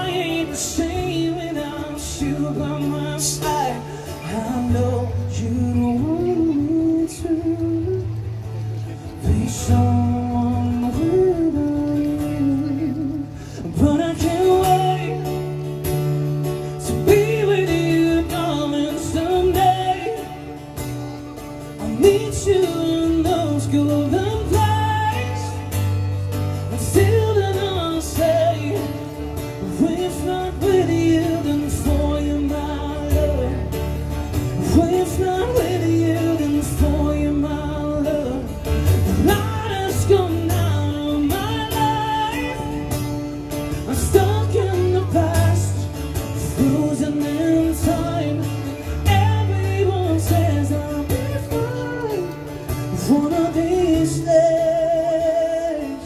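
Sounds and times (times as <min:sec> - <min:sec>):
guitar: 0:00.0 - 0:56.0
man singing into microphone: 0:00.0 - 0:56.0.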